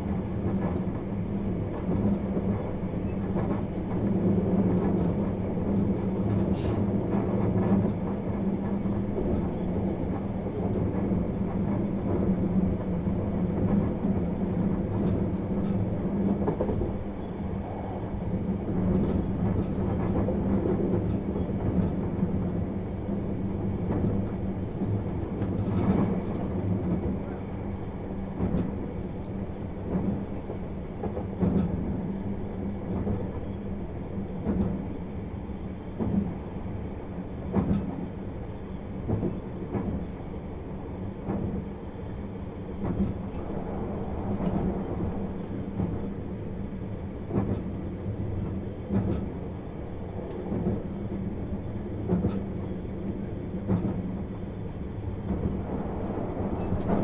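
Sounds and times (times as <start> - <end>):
train wheels rumbling: 0.0 - 35.2, 36.0 - 57.0.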